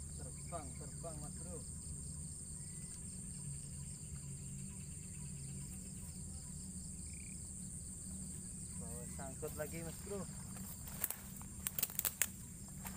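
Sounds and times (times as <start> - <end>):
insect pulsing trill: 0.0 - 12.9
insects buzzing: 0.0 - 12.9.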